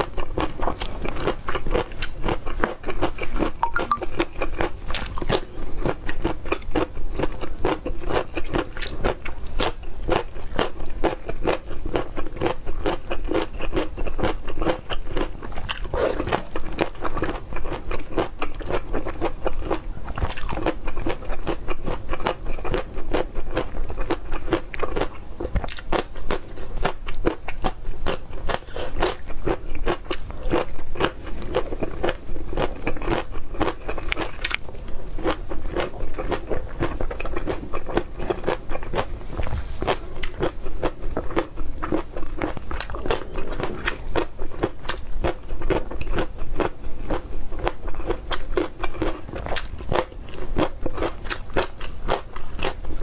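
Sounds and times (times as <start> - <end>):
crunchy bites and chewing: 0.0 - 53.0.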